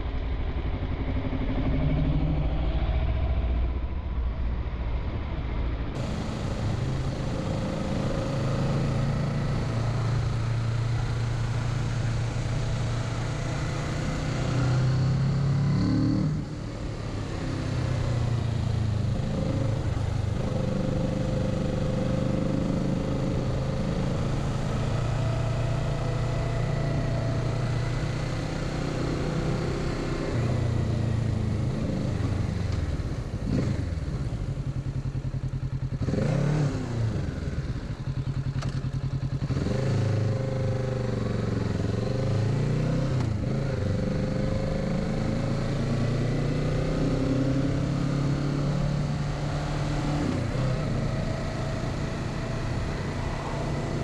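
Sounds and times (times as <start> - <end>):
motorcycle engine running: 0.0 - 3.7, 6.0 - 54.0.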